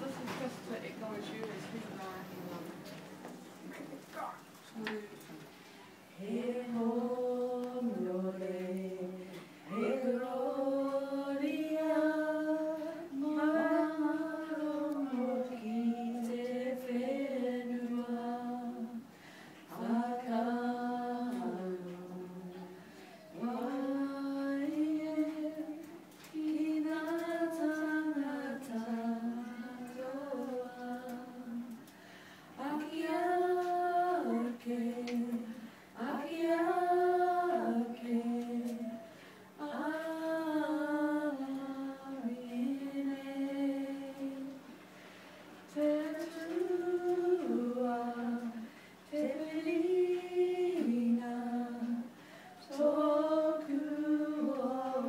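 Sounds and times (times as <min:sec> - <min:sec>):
women singing in unison: 0:06.1 - 0:31.9, 0:32.6 - 0:44.8, 0:45.7 - 0:55.0.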